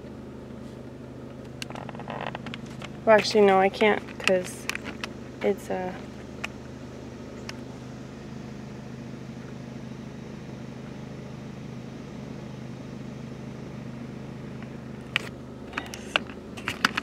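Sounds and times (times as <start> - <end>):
car engine hum inside cabin: 0.0 - 17.0
road and cabin noise: 0.0 - 17.0.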